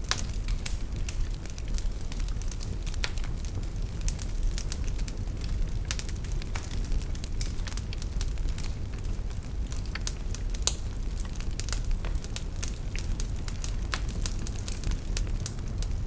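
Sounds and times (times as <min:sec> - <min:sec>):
fire crackling and popping: 0:00.0 - 0:16.0
low fire rumble: 0:00.0 - 0:16.0.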